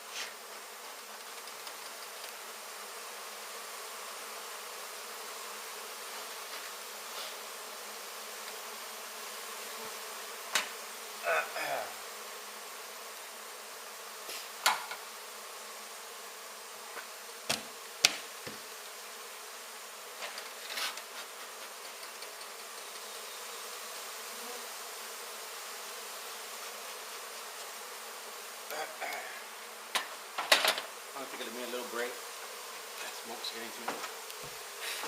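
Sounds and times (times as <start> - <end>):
honey bees buzzing: 0.0 - 35.0.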